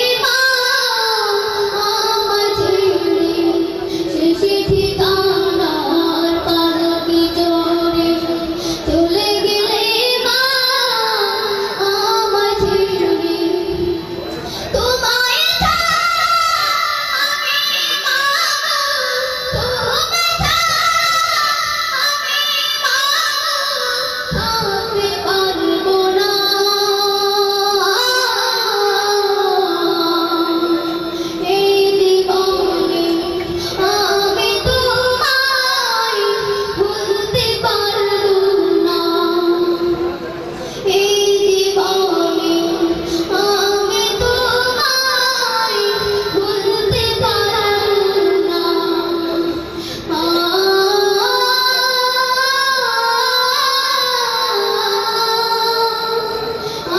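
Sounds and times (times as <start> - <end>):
boy singing into a microphone: 0.0 - 56.9.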